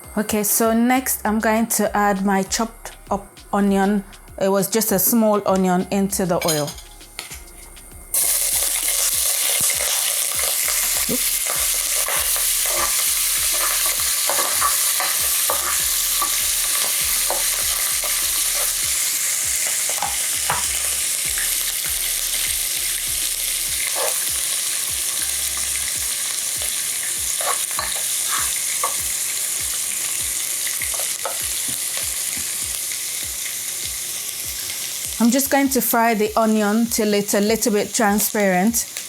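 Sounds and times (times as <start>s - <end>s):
onion sizzling in oil: 0.0s - 39.0s
oil crackling: 7.0s - 39.0s.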